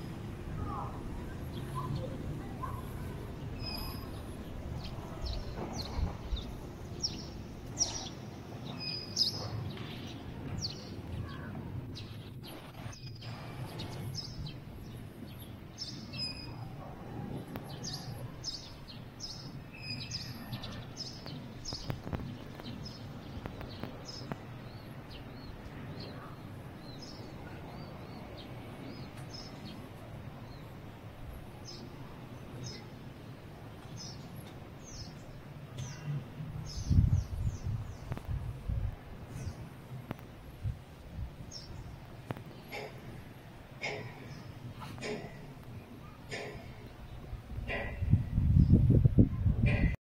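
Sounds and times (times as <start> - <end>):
low background noise: 0.0 - 49.7
small birds chirping: 0.0 - 50.0.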